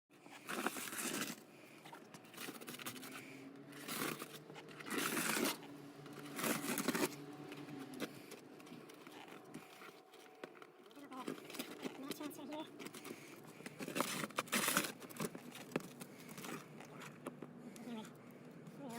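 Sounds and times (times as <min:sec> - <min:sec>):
scratchy rustling noises: 0:00.1 - 0:18.9
faint steady hum: 0:00.2 - 0:18.9.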